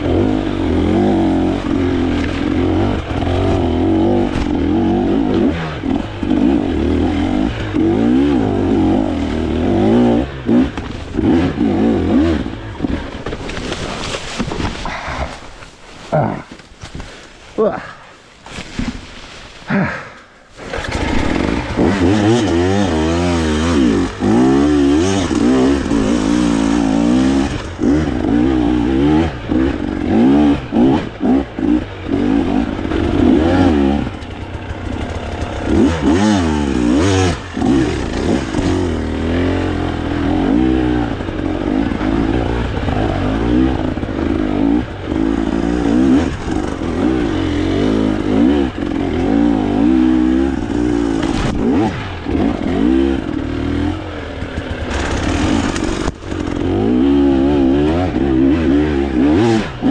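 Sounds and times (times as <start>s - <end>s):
motorcycle engine revving: 0.0s - 15.4s, 19.7s - 59.9s.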